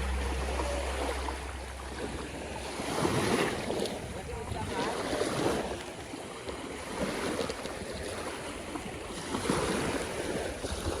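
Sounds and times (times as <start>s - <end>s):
sea water: 0.0s - 11.0s
wind rumbling on microphone: 0.0s - 11.0s.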